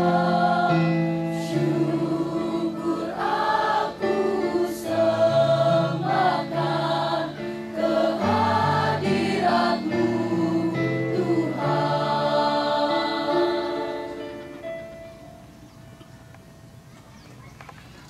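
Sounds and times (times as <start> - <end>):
choir singing in harmony: 0.0 - 14.8
electronic keyboard accompaniment: 0.0 - 17.6.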